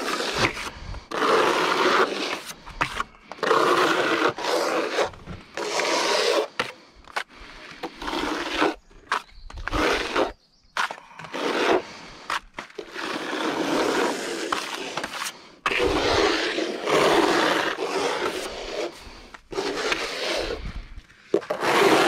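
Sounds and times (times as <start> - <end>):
hand float scraping render: 0.0 - 22.0.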